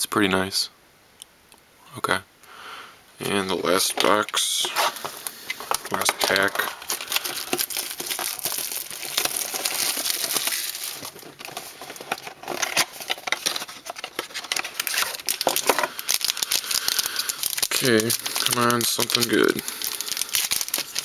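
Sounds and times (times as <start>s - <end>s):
wrapper crinkling and tearing: 3.2s - 21.0s.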